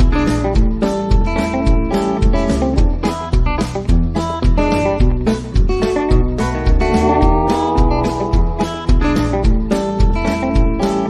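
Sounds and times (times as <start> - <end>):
plucked string music with beat: 0.0 - 11.0.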